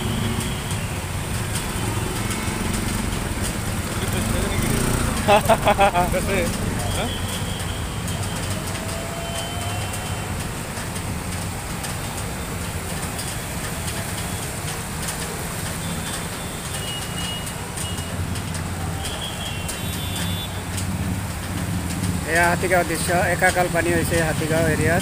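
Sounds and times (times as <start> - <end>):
car engines: 0.0 - 25.0
motorbike engines: 0.0 - 25.0
vehicles driving through water: 0.0 - 25.0.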